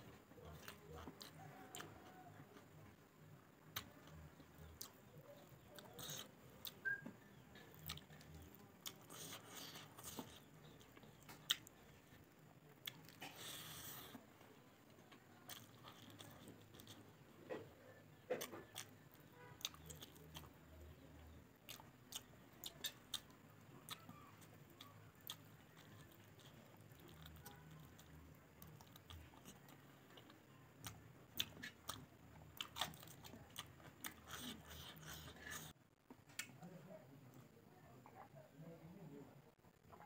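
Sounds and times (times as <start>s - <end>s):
person chewing food: 0.0s - 2.9s, 3.6s - 20.6s, 21.7s - 36.5s.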